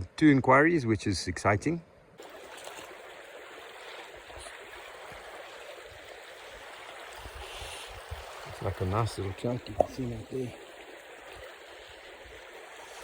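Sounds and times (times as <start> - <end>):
river water rushing: 2.2 - 13.0.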